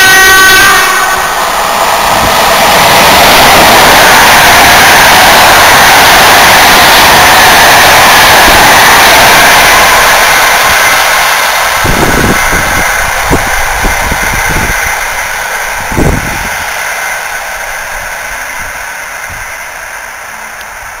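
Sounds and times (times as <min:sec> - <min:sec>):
train rolling hiss: 0:00.0 - 0:21.0.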